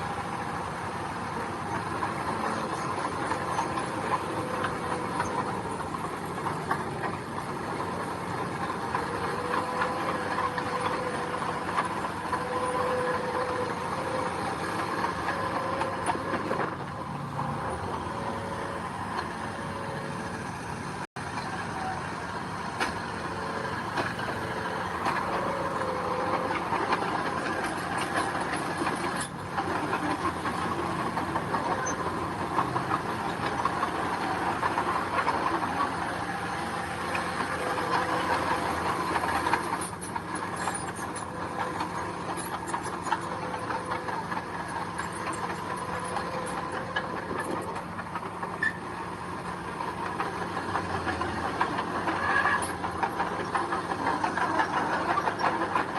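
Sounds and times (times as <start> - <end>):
diesel engine drone: 0.0 - 55.9
machinery rattles: 0.1 - 55.9.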